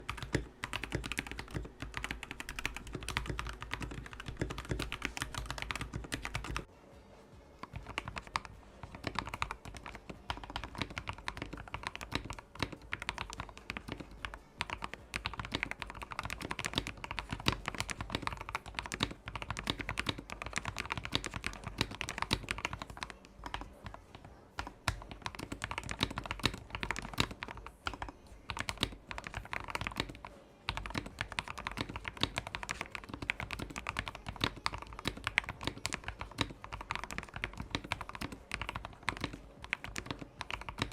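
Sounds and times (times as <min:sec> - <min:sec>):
mechanical keyboard typing: 0:00.0 - 0:06.7, 0:07.6 - 0:40.9.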